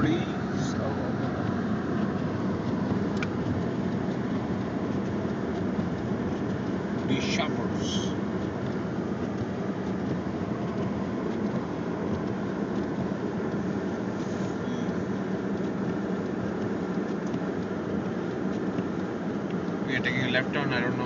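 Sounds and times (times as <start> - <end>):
car cabin road and engine noise: 0.0 - 21.0.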